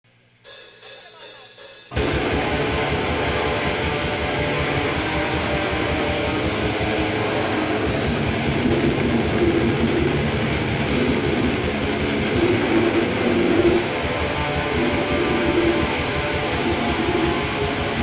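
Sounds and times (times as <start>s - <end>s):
metal band playing: 0.5s - 18.0s.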